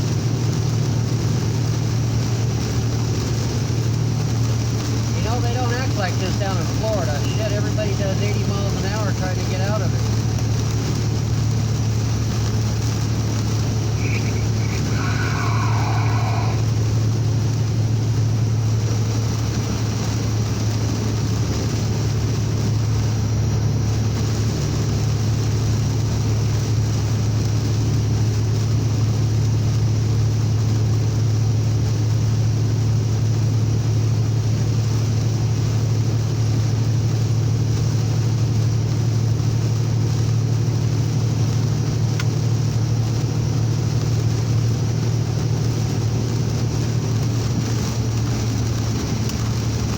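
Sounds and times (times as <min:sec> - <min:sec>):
truck engine droning: 0:00.0 - 0:49.9
wet road noise: 0:00.0 - 0:49.9
heavy rain hiss: 0:00.8 - 0:49.9.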